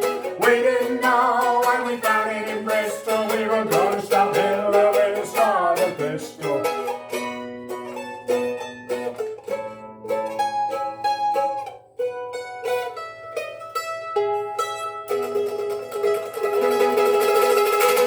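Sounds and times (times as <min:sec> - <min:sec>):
plucked string instrument: 0:00.0 - 0:18.0.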